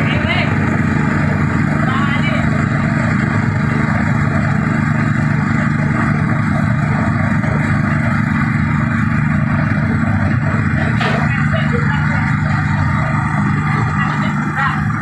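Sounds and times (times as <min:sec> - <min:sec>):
motor drone: 0:00.0 - 0:15.0.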